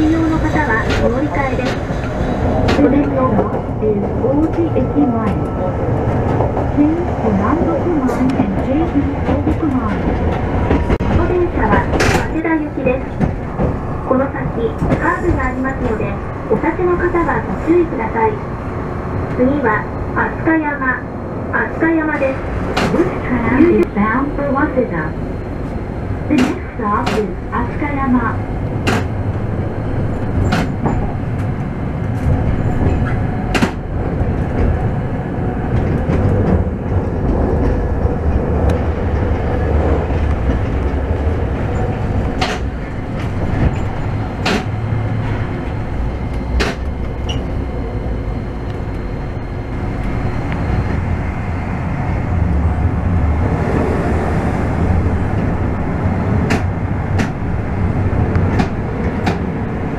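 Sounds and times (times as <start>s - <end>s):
streetcar wheels and motors rumbling: 0.0s - 59.9s.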